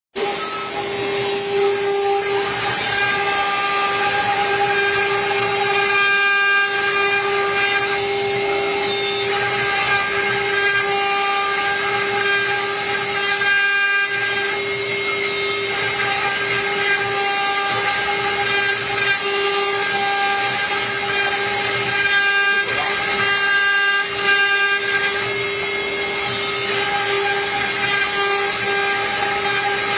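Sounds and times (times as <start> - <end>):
hiss of bit cutting plastic: 0.2 - 29.9
router spindle whining: 0.2 - 29.9.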